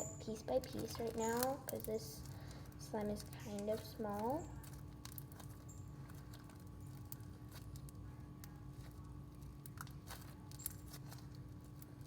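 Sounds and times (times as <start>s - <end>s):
slime and clay squishing: 0.0s - 12.0s.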